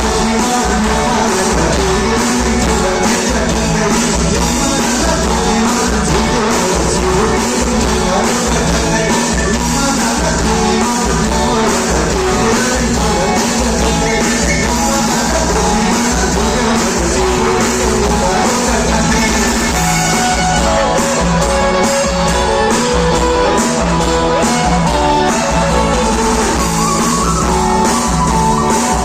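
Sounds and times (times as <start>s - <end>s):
live rock band playing: 0.0s - 29.0s
person singing: 0.0s - 29.0s.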